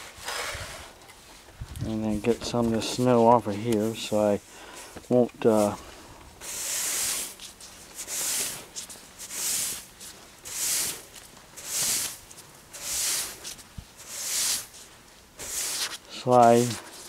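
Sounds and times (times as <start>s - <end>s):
broom sweeping snow: 2.2s - 17.0s.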